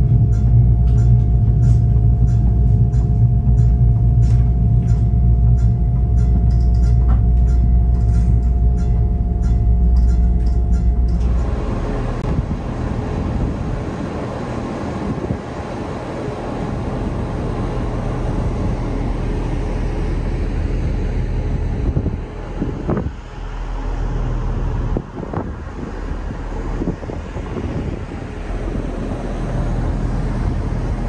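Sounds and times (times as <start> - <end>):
train rumbling: 0.0 - 31.0
wind noise on microphone: 0.0 - 31.0.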